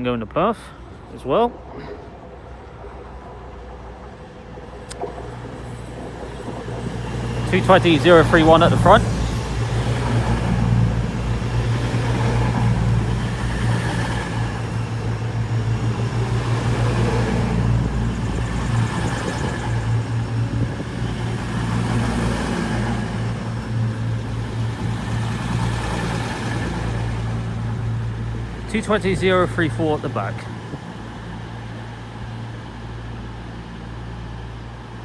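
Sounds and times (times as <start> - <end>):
diesel engines droning: 0.0 - 35.0
train rumbling: 0.0 - 35.0.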